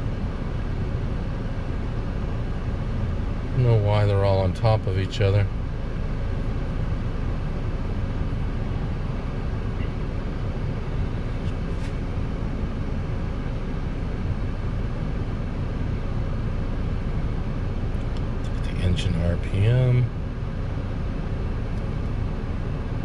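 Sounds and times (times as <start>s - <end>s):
car cabin engine rumble: 0.0s - 23.0s.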